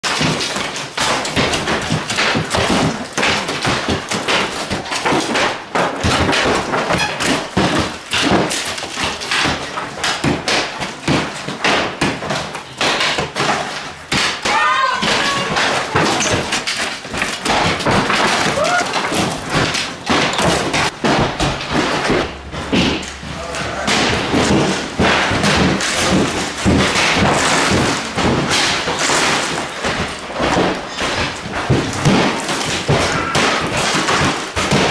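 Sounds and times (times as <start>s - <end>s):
hammers knocking apart walls: 0.0s - 34.9s.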